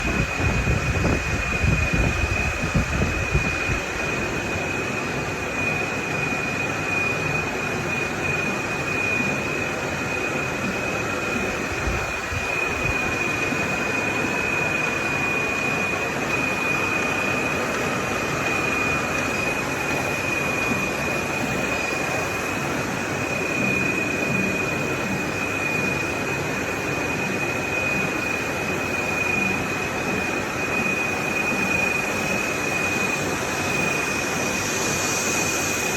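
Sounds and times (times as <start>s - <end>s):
high-pitched machine whine: 0.0s - 35.9s.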